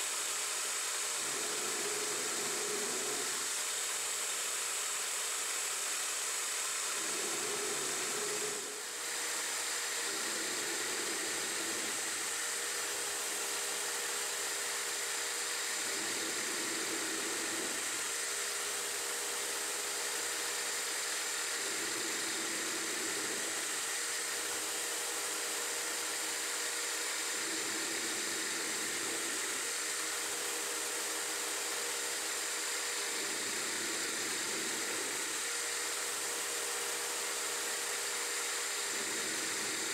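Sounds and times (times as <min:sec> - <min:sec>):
lathe whine: 0:00.0 - 0:39.9
machine hiss: 0:00.0 - 0:39.9.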